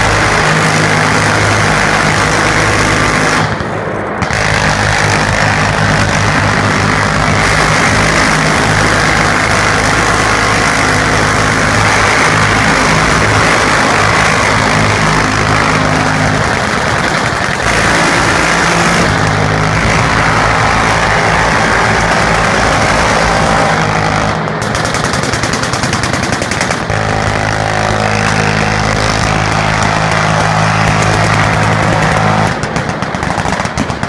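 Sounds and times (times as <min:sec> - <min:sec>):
boat engines running hard: 0:00.0 - 0:34.0
pulsing machine-gun fire: 0:00.0 - 0:34.0
rapid automatic gunfire: 0:00.0 - 0:34.0.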